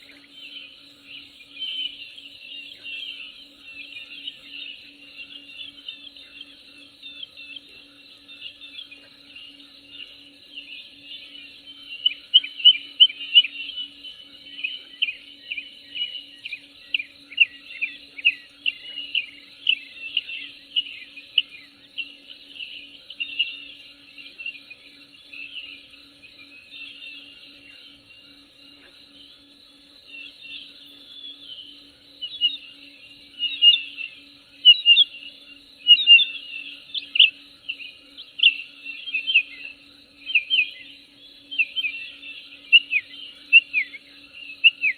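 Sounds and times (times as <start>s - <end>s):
faint low hum: 0.0s - 44.9s
small birds chirping: 0.0s - 44.9s.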